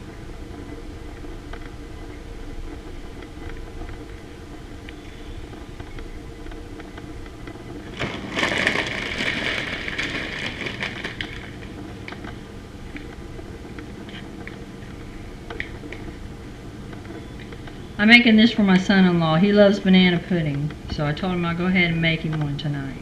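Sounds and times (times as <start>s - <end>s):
crackling rustle: 0.0s - 23.0s
steady low hum: 0.0s - 23.0s.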